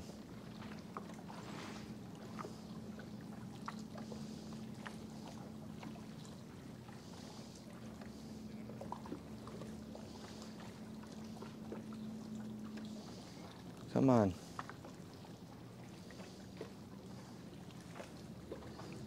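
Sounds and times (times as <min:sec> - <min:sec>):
small waves lapping against boat hull: 0:00.0 - 0:19.0
steady low hum: 0:00.0 - 0:19.0.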